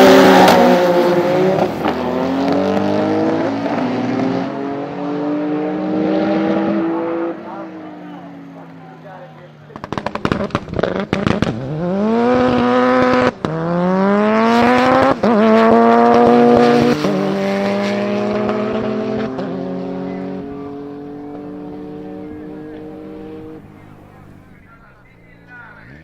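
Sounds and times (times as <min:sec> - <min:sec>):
car engine revving: 0:00.0 - 0:26.0
exhaust crackling: 0:00.0 - 0:26.0.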